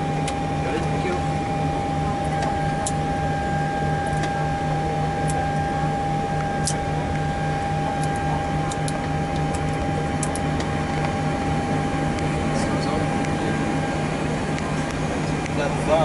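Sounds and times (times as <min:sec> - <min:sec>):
low pulsing throb: 0:00.0 - 0:16.0
steady hum with whine: 0:00.0 - 0:16.0.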